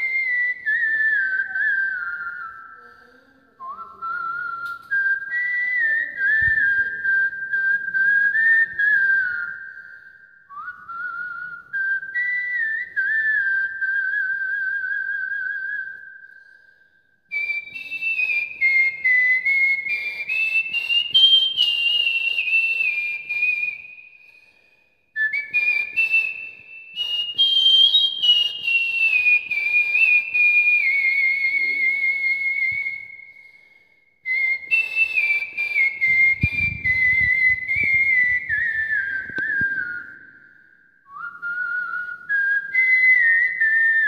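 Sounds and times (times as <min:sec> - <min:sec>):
man whistling a melody: 0:00.0 - 0:44.0.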